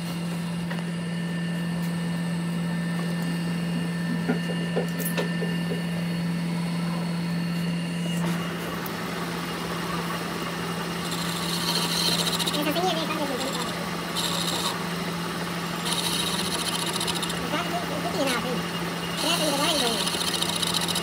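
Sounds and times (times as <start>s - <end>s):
machine motor humming: 0.0s - 21.0s.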